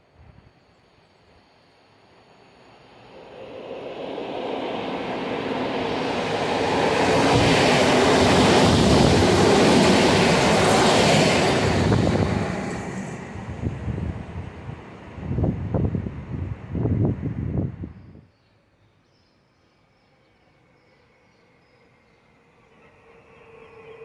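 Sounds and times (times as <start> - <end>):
electric train passing: 0.5 - 17.9, 19.8 - 24.0.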